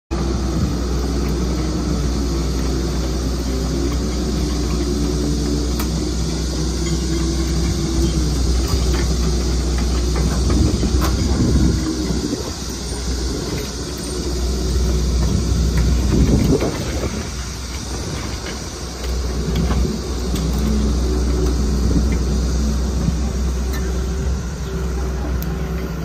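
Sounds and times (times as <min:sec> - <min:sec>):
excavator diesel engine running: 0:00.1 - 0:26.0.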